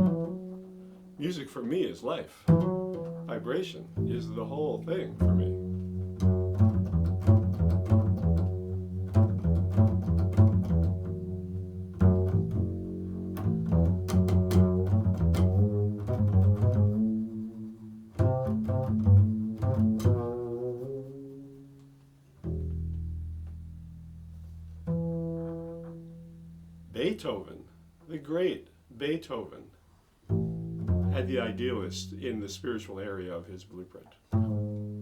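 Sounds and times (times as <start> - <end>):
low plucked string instrument: 0.0 - 28.2, 30.3 - 33.4, 34.3 - 35.0.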